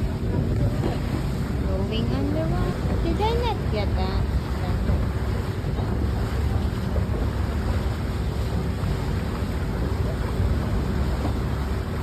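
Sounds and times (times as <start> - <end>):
boat engine rumbling: 0.0 - 12.0
water rushing past: 0.0 - 12.0
wind buffeting microphone: 0.0 - 12.0.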